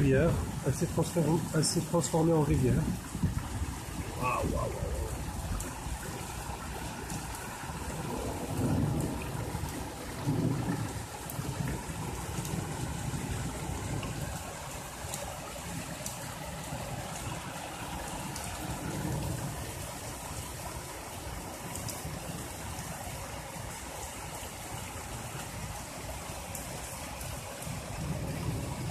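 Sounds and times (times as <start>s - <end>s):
rain falling: 0.0s - 28.9s
water rushing down a flooded street: 0.0s - 28.9s.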